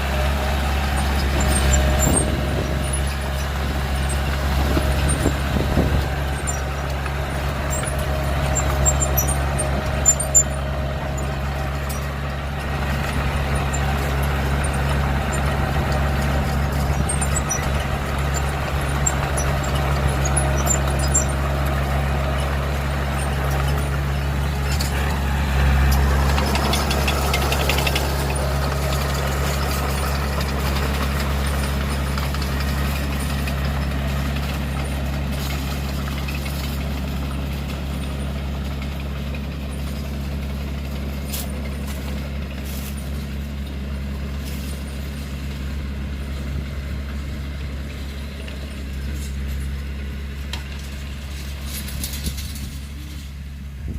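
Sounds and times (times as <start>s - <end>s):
heavy vehicle engine humming: 0.0s - 53.9s.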